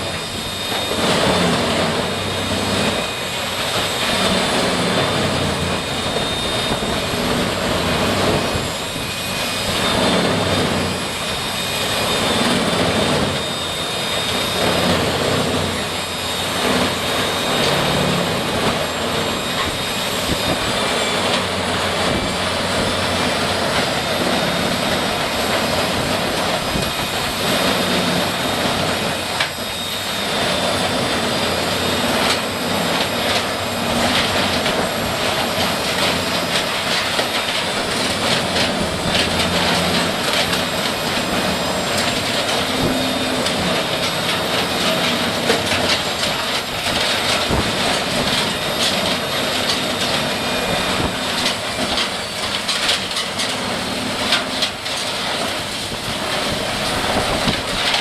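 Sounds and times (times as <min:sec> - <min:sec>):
heavy machinery running: 0:00.0 - 0:58.0
high steady whine: 0:00.0 - 0:58.0.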